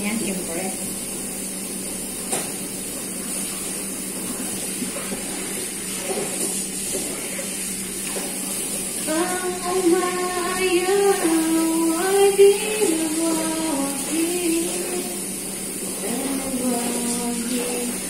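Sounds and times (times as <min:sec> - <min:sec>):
water splashing: 0:03.3 - 0:18.0.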